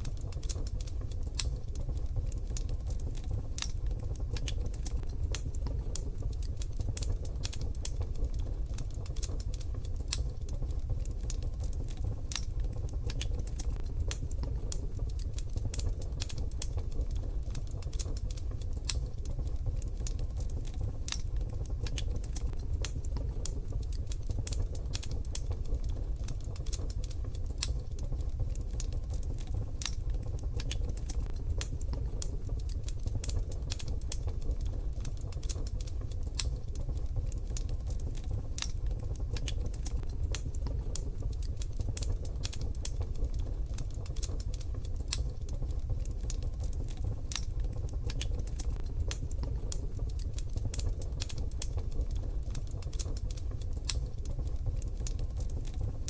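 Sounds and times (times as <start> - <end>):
steady low rumble: 0.0 - 56.0
wood fire crackling: 0.0 - 56.0.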